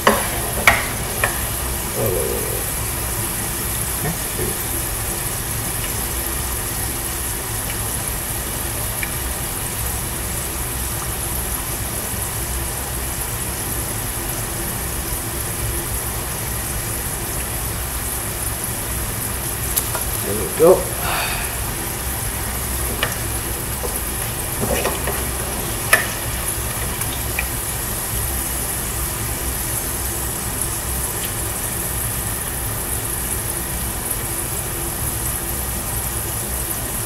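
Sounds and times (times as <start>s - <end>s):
gas burner low hum: 0.0s - 14.4s, 15.0s - 36.9s
fries frying in oil: 0.0s - 37.0s.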